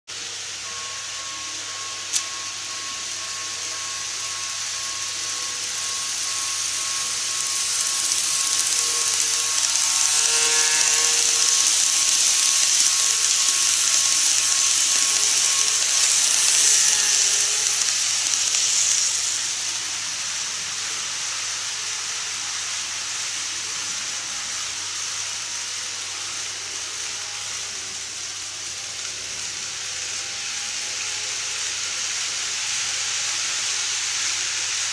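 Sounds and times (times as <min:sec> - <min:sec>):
model train whirring rattle: 0:00.1 - 0:34.9.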